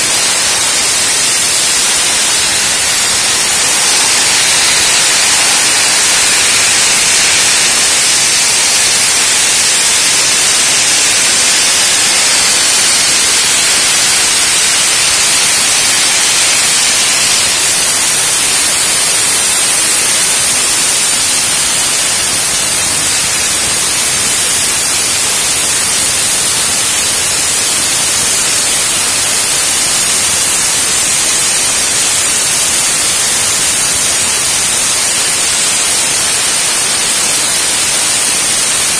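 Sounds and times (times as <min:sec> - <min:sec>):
sandblasting nozzle hissing: 0:00.0 - 0:38.9.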